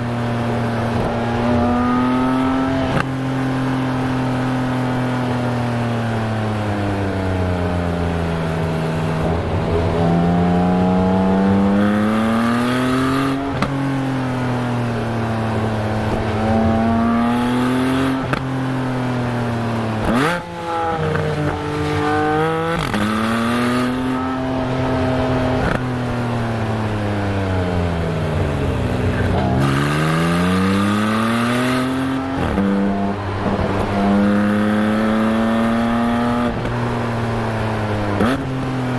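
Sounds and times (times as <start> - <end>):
car exhaust revving: 5.8 - 38.7.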